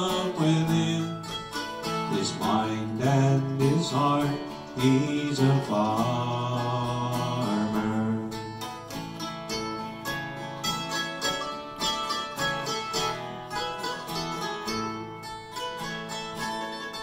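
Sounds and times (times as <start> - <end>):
acoustic guitar strumming: 0.0 - 17.0
plucked string instrument: 0.0 - 17.0.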